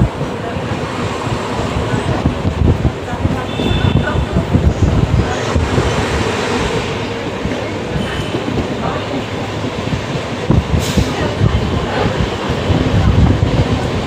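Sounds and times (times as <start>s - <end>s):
train rumbling and rattling: 0.0s - 14.0s.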